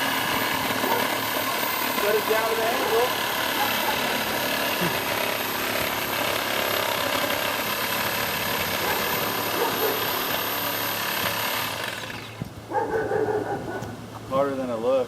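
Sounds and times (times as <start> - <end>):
power saw cutting tree trunk: 0.0 - 12.6.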